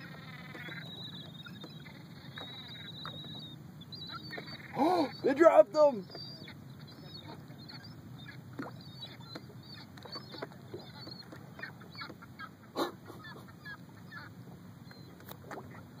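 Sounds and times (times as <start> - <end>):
distant waterbird calls: 0.0 - 16.0.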